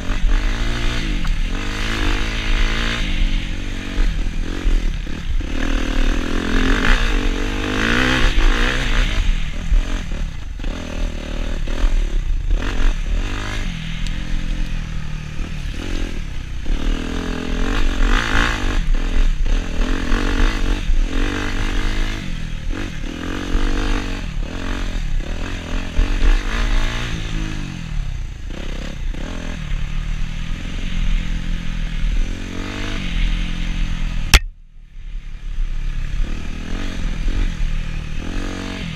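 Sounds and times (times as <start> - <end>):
dirt bike engine revving: 0.0 - 34.4, 35.5 - 38.9.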